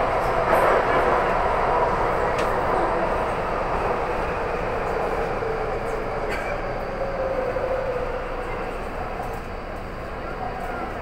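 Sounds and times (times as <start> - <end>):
train droning tone: 0.0 - 11.0
train wheels rumbling on rails: 0.0 - 11.0.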